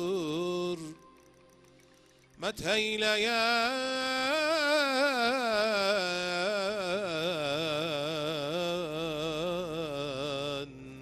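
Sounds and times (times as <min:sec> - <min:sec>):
man singing melismatic hymn: 0:00.0 - 0:01.0, 0:02.4 - 0:11.0.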